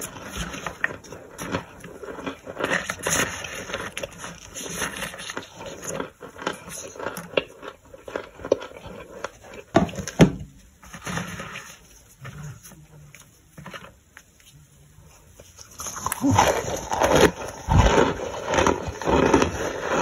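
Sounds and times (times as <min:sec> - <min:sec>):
plastic spoon scraping crunchy chunks: 0:00.0 - 0:12.7, 0:15.2 - 0:20.0.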